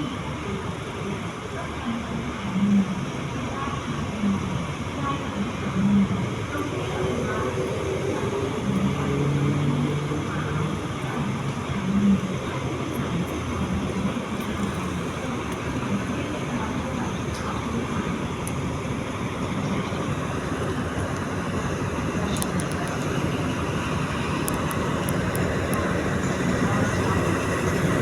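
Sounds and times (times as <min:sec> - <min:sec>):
diesel train engine running: 0:00.0 - 0:28.0.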